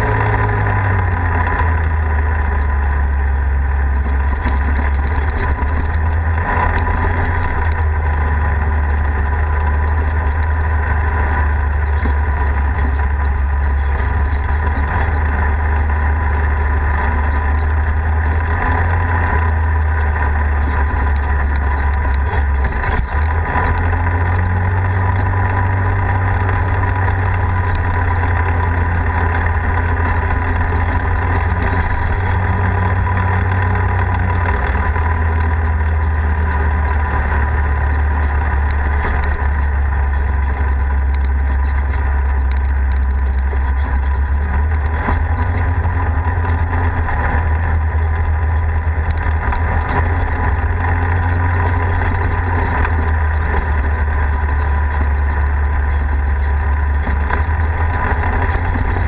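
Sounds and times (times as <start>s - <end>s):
knocks and rattles over gravel: 0.0s - 59.0s
vehicle engine droning: 0.0s - 59.0s.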